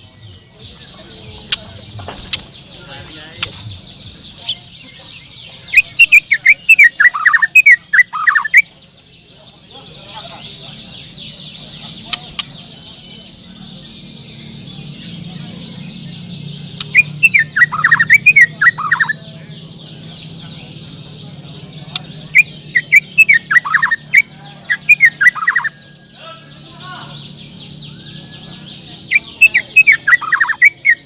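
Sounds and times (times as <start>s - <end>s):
songbirds twittering chorus: 0.0s - 31.0s.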